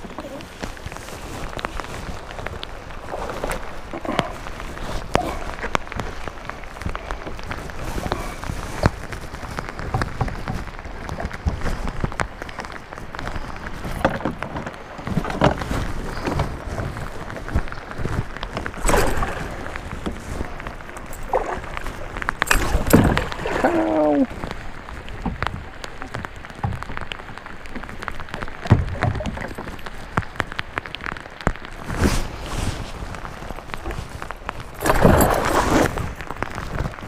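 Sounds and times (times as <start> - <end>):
heavy rain on water: 0.0 - 37.0.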